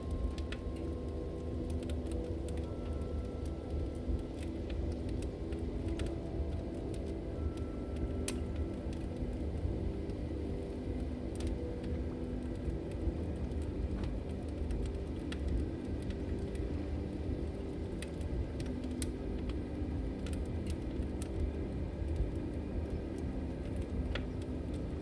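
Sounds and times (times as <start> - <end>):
low rumble of flames: 0.0 - 25.0
wood crackling and popping: 0.0 - 25.0.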